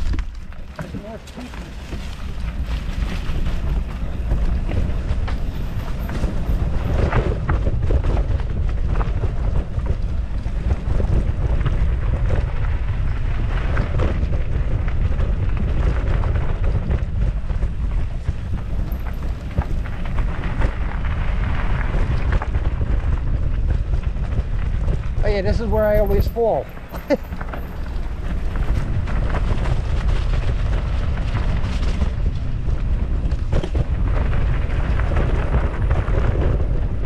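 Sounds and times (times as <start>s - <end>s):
bike rattling and knocking: 0.0s - 37.0s
tyres rolling over dirt: 0.0s - 37.0s
wind buffeting microphone: 0.0s - 37.0s.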